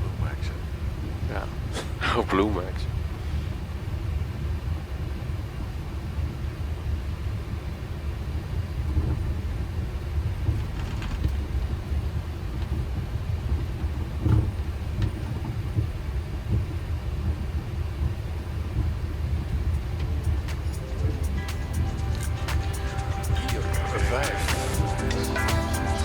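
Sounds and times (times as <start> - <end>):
aircraft engines idling while taxiing: 0.0 - 26.0.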